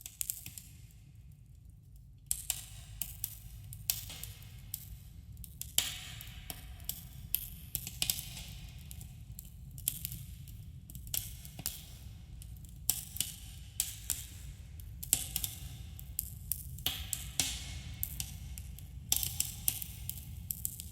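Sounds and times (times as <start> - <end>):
low rumble of burning fire: 1.3 - 20.9.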